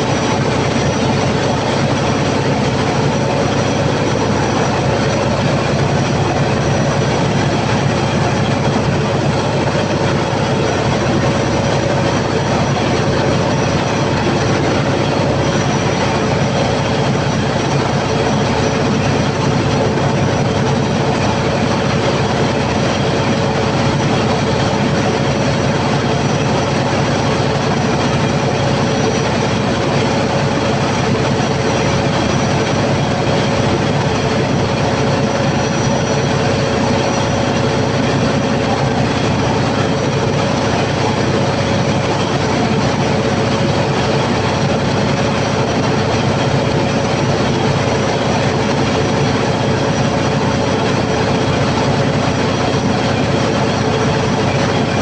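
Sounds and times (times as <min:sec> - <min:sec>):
diesel generator engine running: 0:00.0 - 0:55.0
steady hum: 0:00.0 - 0:55.0.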